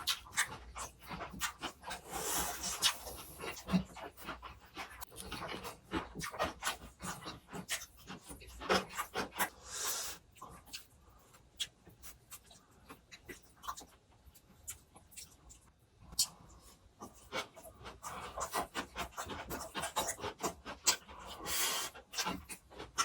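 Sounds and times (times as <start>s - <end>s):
wet chewing and lip smacks: 0.0s - 23.0s.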